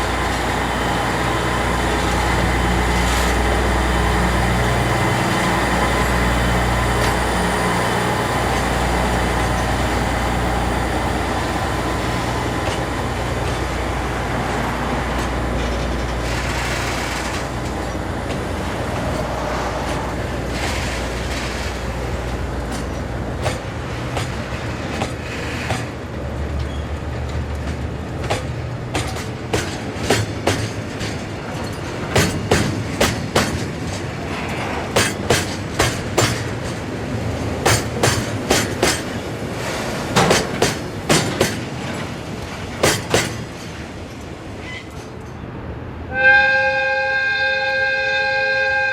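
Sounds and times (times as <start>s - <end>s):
wagons clacking over rail joints: 0.0s - 45.6s
diesel locomotive drone: 0.0s - 48.9s.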